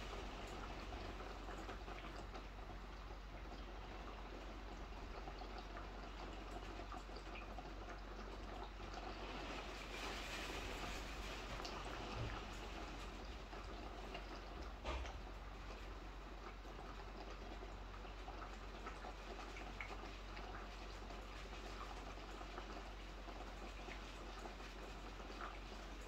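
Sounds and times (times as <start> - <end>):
small drips and taps: 0.0 - 26.0.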